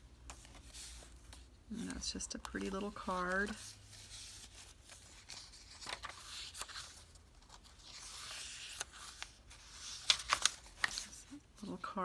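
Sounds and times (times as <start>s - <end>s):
paper pages rustling: 0.2s - 11.4s.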